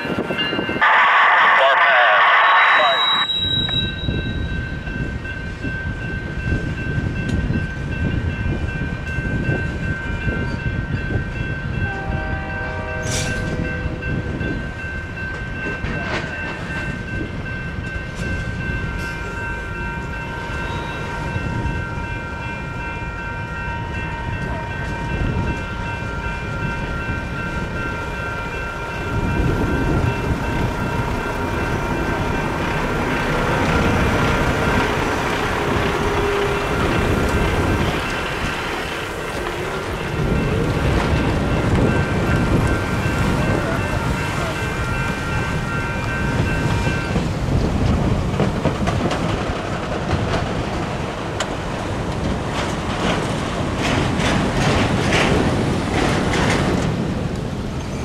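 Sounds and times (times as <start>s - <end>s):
freight train wheels rumbling: 0.0s - 2.0s, 2.8s - 58.0s
electronic crossing bell ringing: 0.0s - 47.2s.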